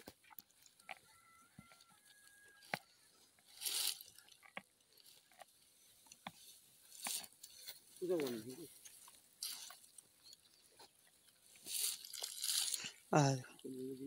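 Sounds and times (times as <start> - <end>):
loud crunch: 0.0 - 13.0
dry stalks crackling and rustling: 0.0 - 14.0.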